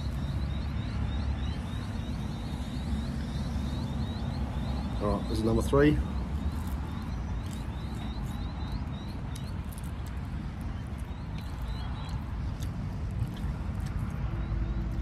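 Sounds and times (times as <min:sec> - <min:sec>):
crunchy chewing: 0:00.0 - 0:15.0
small birds chirping: 0:00.0 - 0:15.0.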